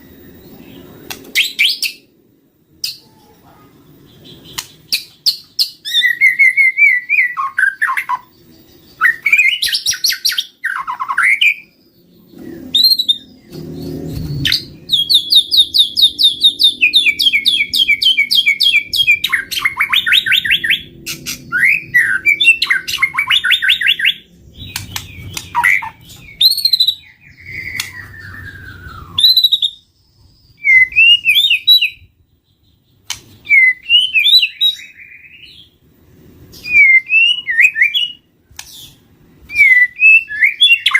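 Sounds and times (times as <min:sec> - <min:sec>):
bird singing whistles: 0:04.4 - 0:08.3, 0:08.9 - 0:11.8, 0:12.4 - 0:32.1, 0:33.4 - 0:35.7, 0:36.6 - 0:40.9.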